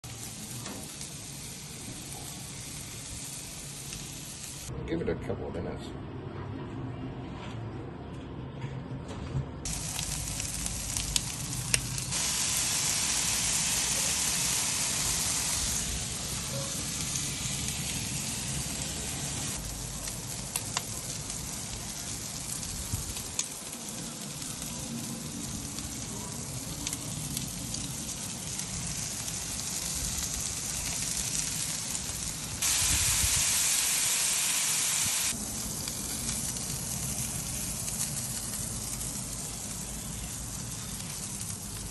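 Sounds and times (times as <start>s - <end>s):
food sizzling on a grill: 0.0s - 4.7s, 9.7s - 41.9s.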